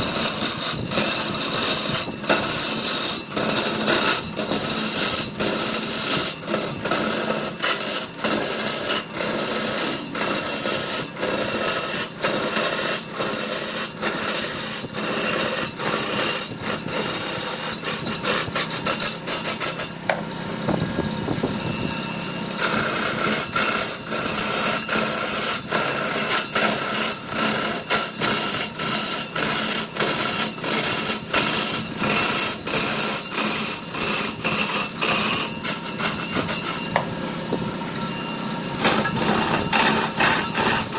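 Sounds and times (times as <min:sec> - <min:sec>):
woodworking tool cutting wood: 0:00.0 - 0:40.9.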